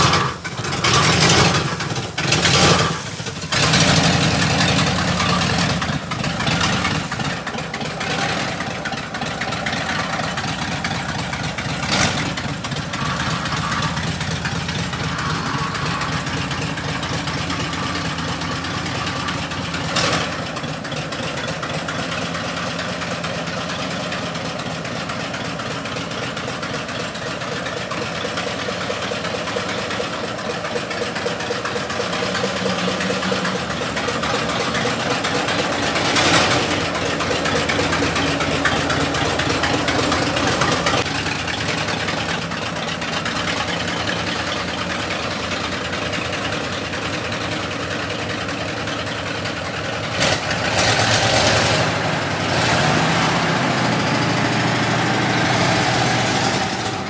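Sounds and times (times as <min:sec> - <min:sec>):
large engine starting and idling: 0:00.0 - 0:57.0.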